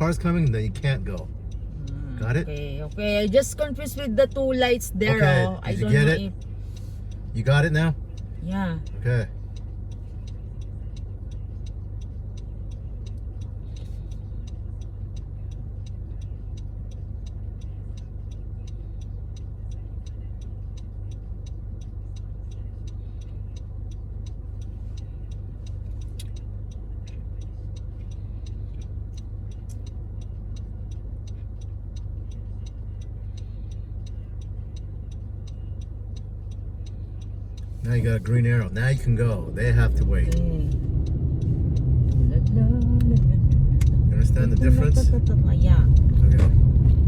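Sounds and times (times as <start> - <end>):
car engine idling: 0.0 - 47.0
turn signal clicking: 0.0 - 47.0.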